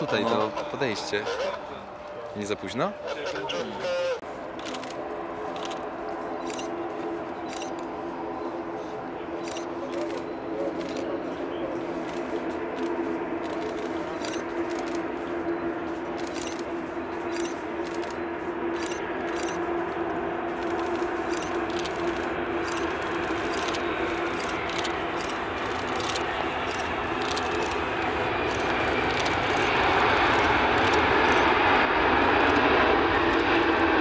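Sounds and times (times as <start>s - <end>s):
jet engines droning: 0.0s - 34.0s.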